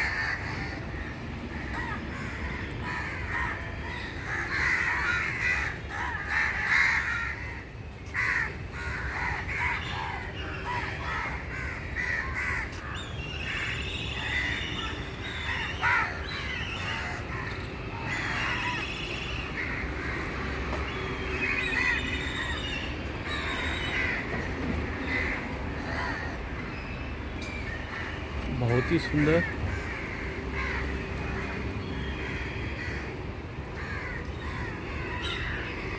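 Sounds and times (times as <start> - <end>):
crows cawing: 0.0 - 26.8, 27.8 - 35.9.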